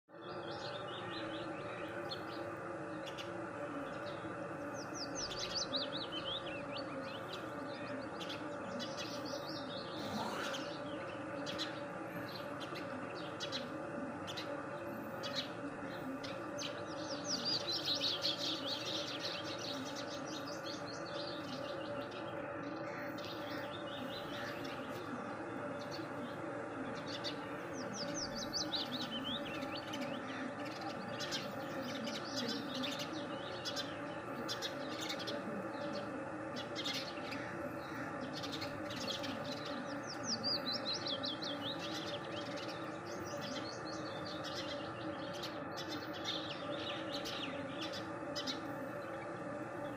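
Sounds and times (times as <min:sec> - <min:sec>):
small birds chirping and twittering: 0:00.1 - 0:49.9
steady low hum: 0:00.1 - 0:49.9.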